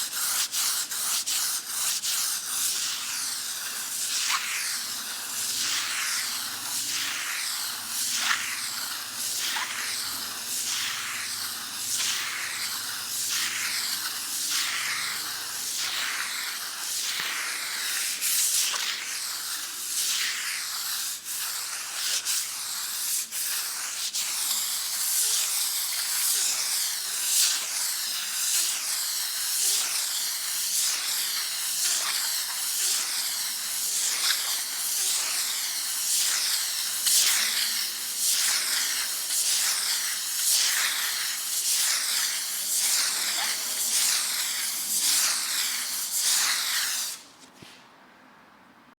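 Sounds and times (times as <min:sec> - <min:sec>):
sandpaper rasping on wall: 0:00.0 - 0:47.5.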